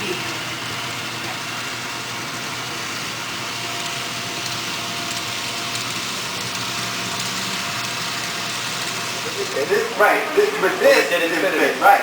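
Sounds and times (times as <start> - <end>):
model train rumbling on track: 0.0 - 12.0.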